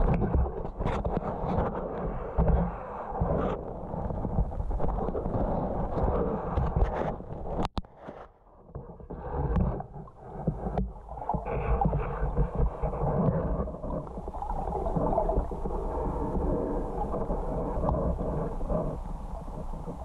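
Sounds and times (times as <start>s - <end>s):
underwater rumbling and gurgling: 0.0s - 20.0s.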